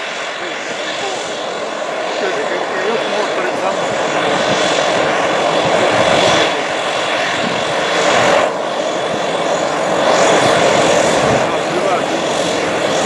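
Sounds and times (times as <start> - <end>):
high turbine whine: 0.0 - 13.0
propeller drone: 0.0 - 13.0.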